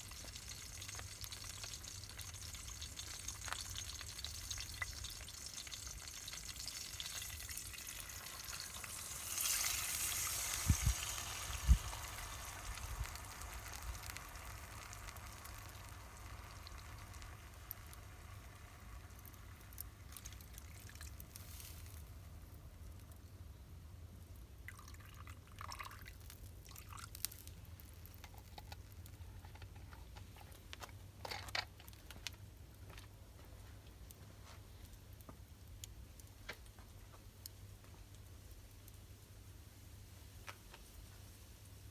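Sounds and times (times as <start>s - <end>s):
pork sizzling over a campfire: 0.0s - 23.3s, 25.4s - 32.9s, 33.9s - 41.9s.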